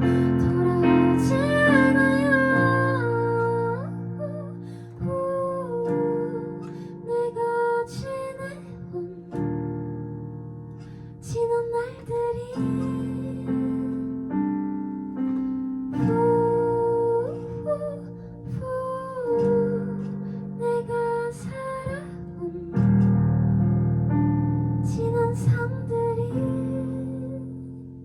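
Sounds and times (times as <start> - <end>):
slow soft piano music: 0.0 - 28.0.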